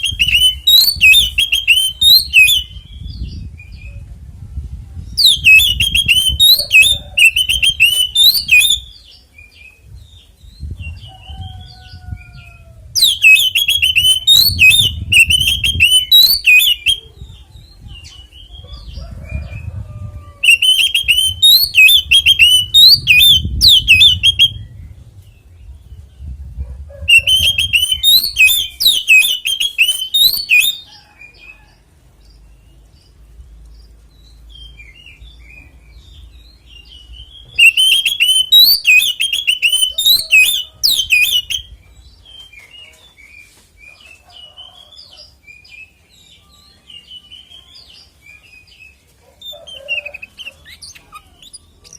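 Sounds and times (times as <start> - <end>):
bird singing rapid song: 0.0 - 4.0, 5.1 - 12.2, 13.0 - 19.6, 20.4 - 26.4, 27.1 - 31.4, 32.2 - 51.9.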